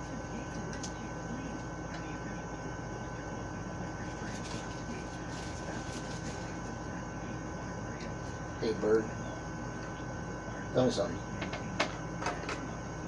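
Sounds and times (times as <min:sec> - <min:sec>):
air conditioner hum: 0:00.0 - 0:13.0.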